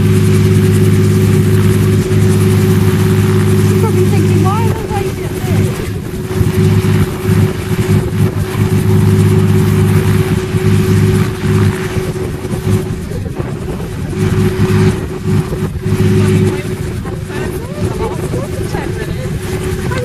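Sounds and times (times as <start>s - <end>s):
helicopter engine idling: 0.0s - 20.0s
wind noise on microphone: 0.0s - 20.0s.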